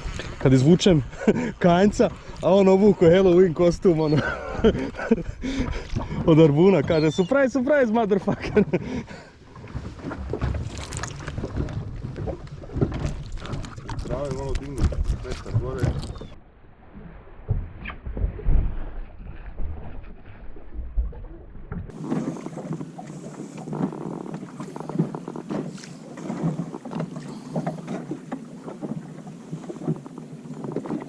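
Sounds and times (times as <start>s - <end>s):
water slapping against boat: 0.0s - 31.0s
wind: 0.0s - 31.0s.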